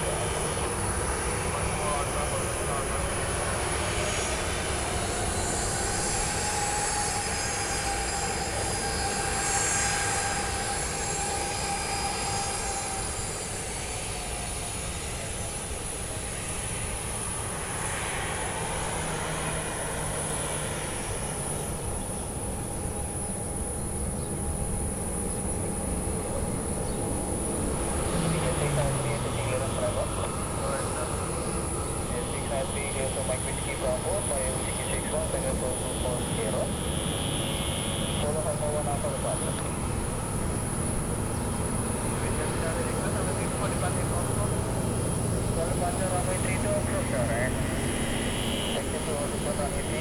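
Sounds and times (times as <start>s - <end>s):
jet engines idling: 0.0s - 50.0s.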